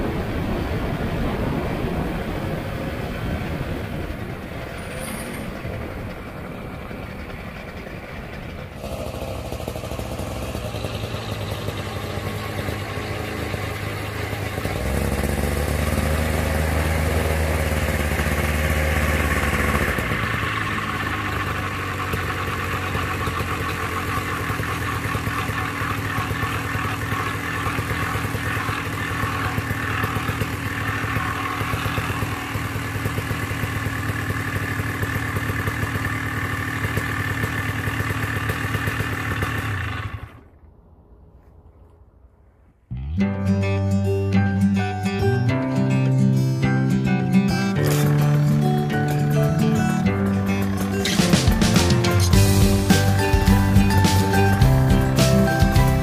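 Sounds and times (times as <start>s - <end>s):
light aircraft engine running: 0.0s - 42.0s, 43.0s - 56.0s.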